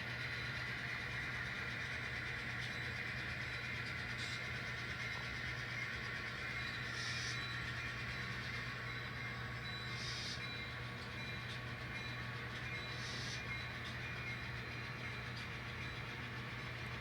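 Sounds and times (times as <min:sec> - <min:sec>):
model train motor hum: 0:00.0 - 0:17.0.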